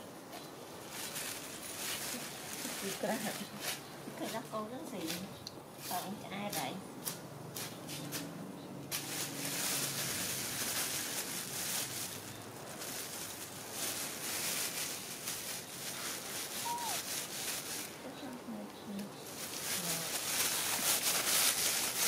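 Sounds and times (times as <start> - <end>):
high outdoor hiss: 0.0 - 22.0.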